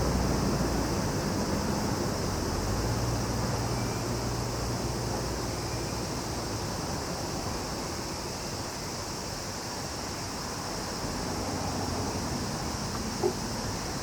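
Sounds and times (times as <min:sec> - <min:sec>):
cicadas chorus: 0:00.0 - 0:14.0.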